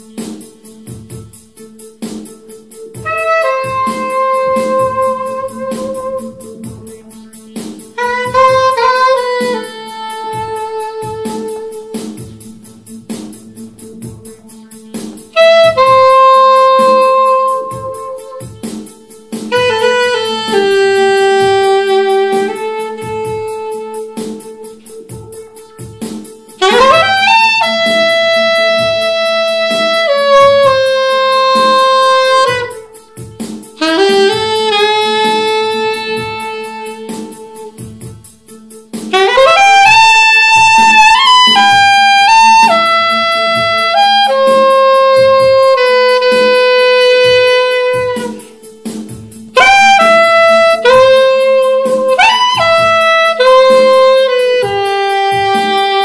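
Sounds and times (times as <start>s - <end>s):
soprano saxophone melody: 0.0s - 56.0s.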